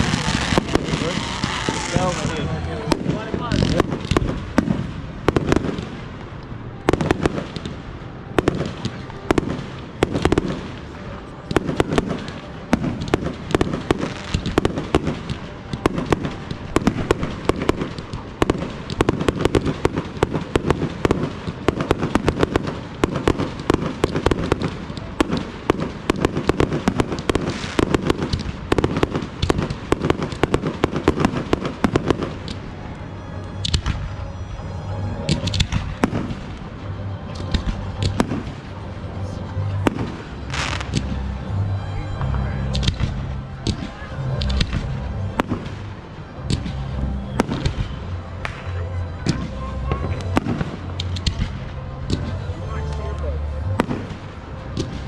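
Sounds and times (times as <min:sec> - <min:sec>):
fireworks booming and cracking: 0:00.0 - 0:32.8, 0:35.2 - 0:38.9, 0:39.8 - 0:41.4, 0:42.3 - 0:53.0, 0:53.6 - 0:55.0.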